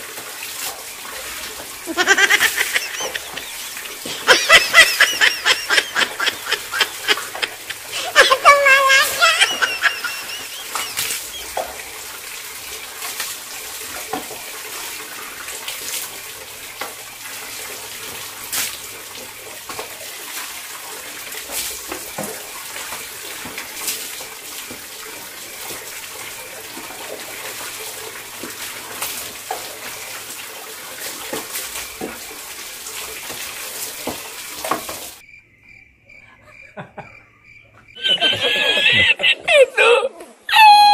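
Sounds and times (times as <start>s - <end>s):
dipper scooping water from bucket: 0.0s - 35.2s
running water rushing: 0.0s - 35.2s
water poured splashing on concrete: 0.0s - 35.2s.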